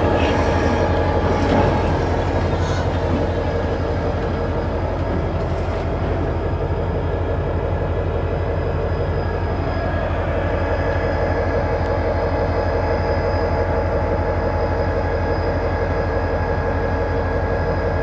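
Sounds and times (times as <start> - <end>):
diesel locomotive rumble: 0.0 - 18.0
wheels rolling on rail: 0.0 - 18.0.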